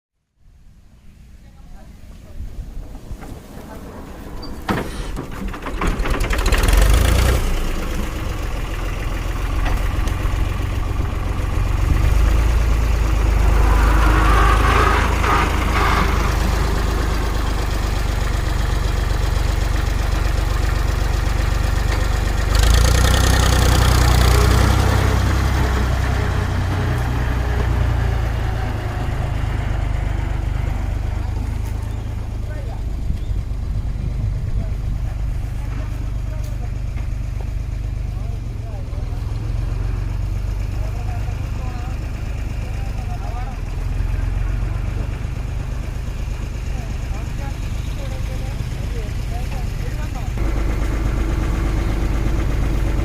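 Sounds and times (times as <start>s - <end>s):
tractor diesel engine running: 0.7s - 53.0s.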